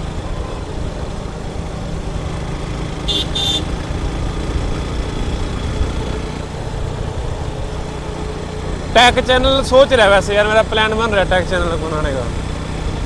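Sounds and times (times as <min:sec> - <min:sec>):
motorcycle engine rumble: 0:00.0 - 0:13.0
road and wind noise: 0:00.0 - 0:13.0.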